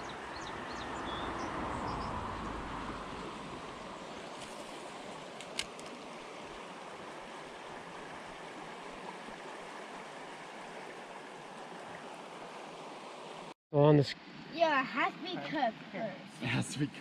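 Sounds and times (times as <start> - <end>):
river water running: 0.0 - 13.6, 14.2 - 16.9.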